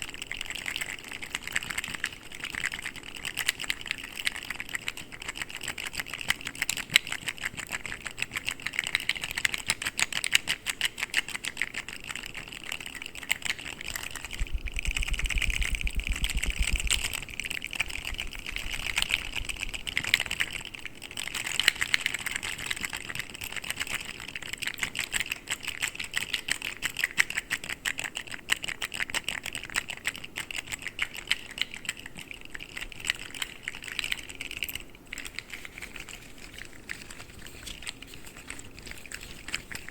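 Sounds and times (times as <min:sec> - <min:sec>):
plastic fidget toys clicking: 0:00.0 - 0:39.9.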